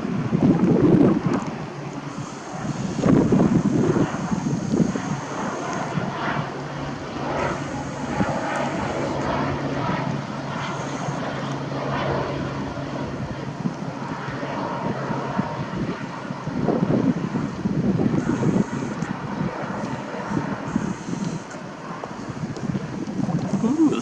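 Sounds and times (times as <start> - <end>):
airplane engine droning: 0.0 - 24.0.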